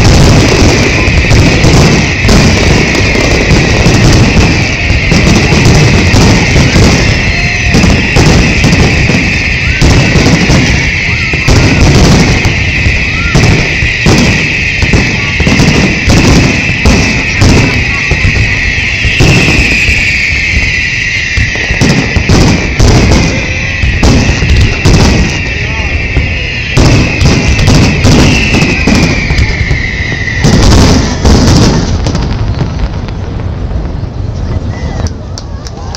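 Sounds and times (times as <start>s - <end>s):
fireworks exploding bangs: 0.0s - 35.2s
fireworks crackling and hissing: 0.0s - 35.9s.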